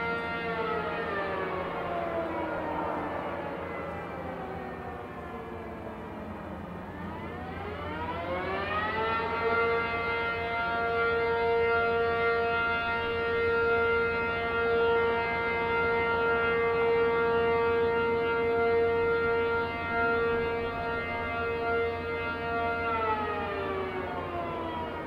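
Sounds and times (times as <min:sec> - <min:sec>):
warning siren: 0:00.0 - 0:25.0.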